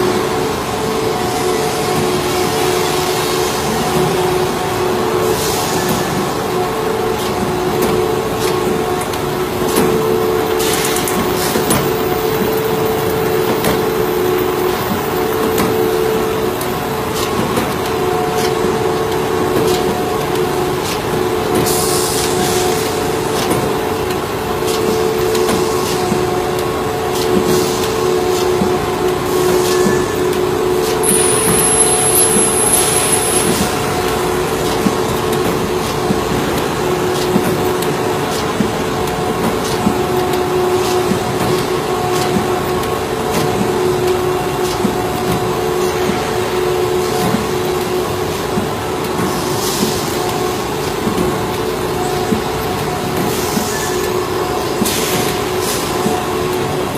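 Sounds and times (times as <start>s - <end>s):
punching machine humming: 0.0s - 56.9s.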